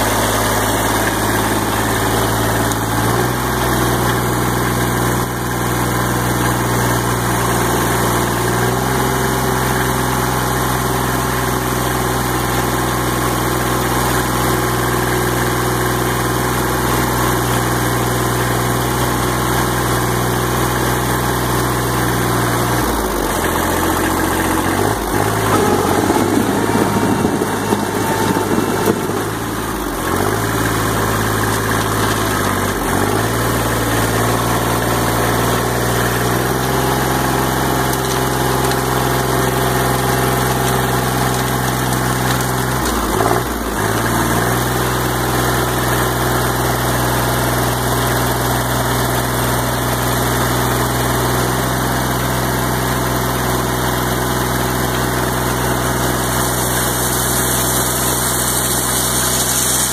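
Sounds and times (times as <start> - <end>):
tractor diesel engine idling: 0.0 - 59.9.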